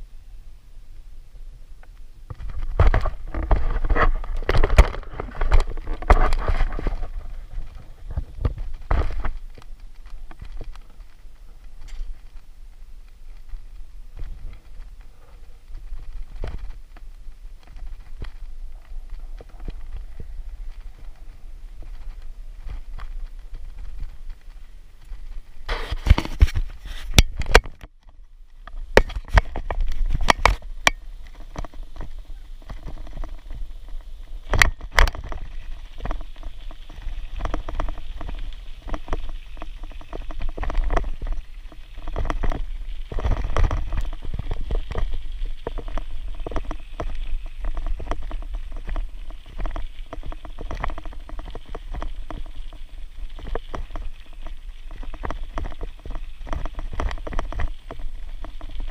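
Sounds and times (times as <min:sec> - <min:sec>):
bicycle tyres rumbling over ground: 0:01.2 - 0:58.9
bicycle knocks and rattles: 0:02.3 - 0:12.5, 0:13.5 - 0:58.9.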